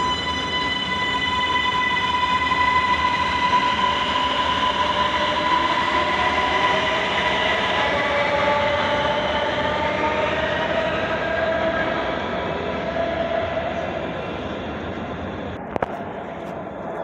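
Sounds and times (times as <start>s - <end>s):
subway train whining and rumbling: 0.0s - 17.0s.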